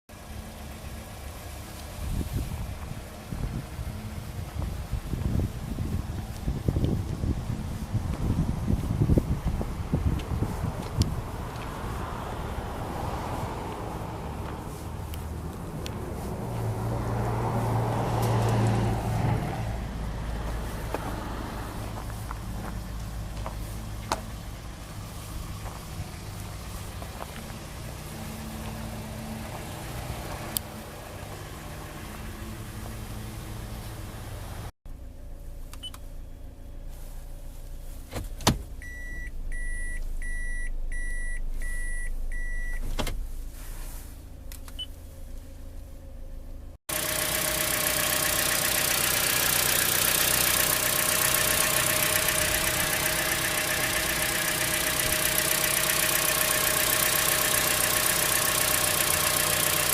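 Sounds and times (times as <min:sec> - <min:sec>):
car engine idling: 0:00.1 - 0:59.9.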